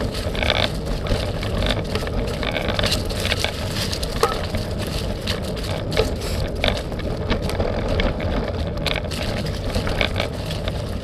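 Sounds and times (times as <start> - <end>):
bike rattling and clicking: 0.0 - 11.0
low rumble of bike on trail: 0.0 - 11.0.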